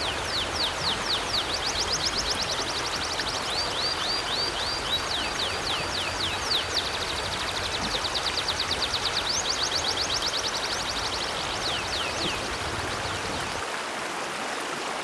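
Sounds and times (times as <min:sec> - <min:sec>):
songbird singing: 0:00.0 - 0:13.6
river water flowing: 0:00.0 - 0:15.0.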